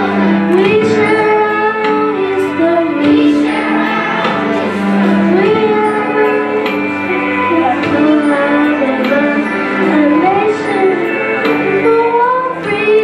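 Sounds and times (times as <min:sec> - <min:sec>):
girl singing into a microphone: 0:00.0 - 0:04.4, 0:05.2 - 0:13.0
instrumental backing music: 0:00.0 - 0:13.0.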